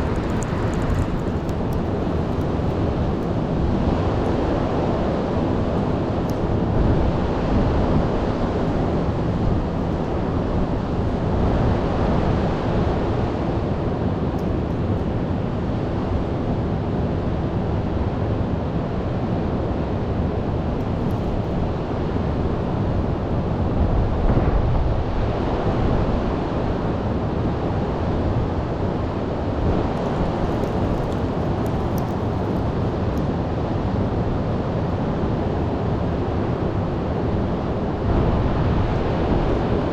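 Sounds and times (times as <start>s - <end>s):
wind buffeting microphone: 0.0s - 16.8s, 20.6s - 39.9s.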